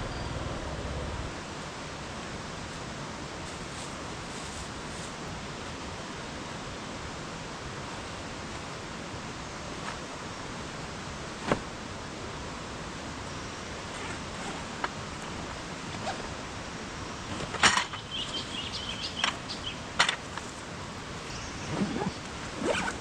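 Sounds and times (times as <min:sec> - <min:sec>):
stream rushing: 0:01.2 - 0:23.0.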